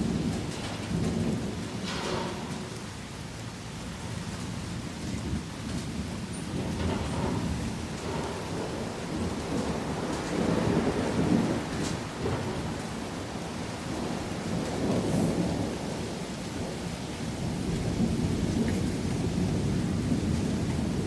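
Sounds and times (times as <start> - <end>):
distant thunder rumbling: 0.0 - 21.0
steady rain: 0.0 - 21.0.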